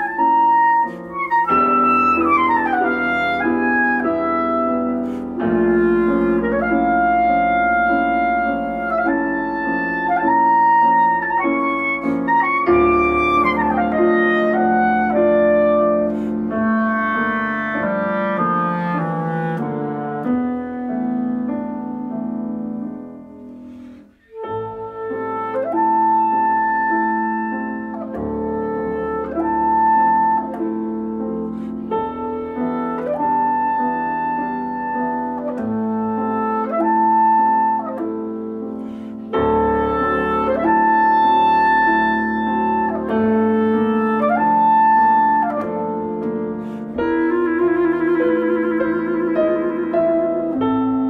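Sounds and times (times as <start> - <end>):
clarinet playing held notes: 0.0 - 20.4, 24.2 - 51.0
piano chords: 0.0 - 51.0.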